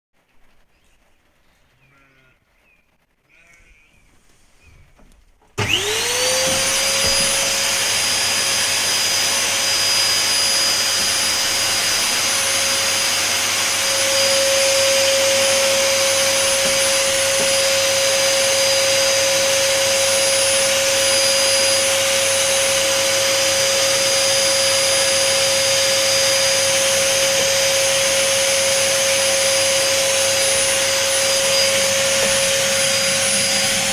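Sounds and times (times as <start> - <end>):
vacuum cleaner motor whine: 5.0 - 33.9.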